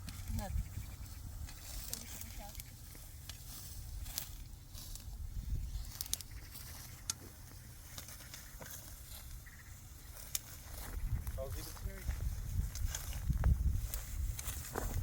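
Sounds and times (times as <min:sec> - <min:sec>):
sharp crackles and rustles: 0:00.0 - 0:15.0.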